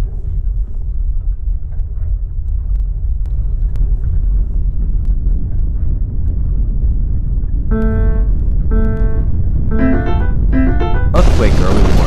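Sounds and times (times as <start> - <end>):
deep earthquake rumble: 0.0 - 12.0.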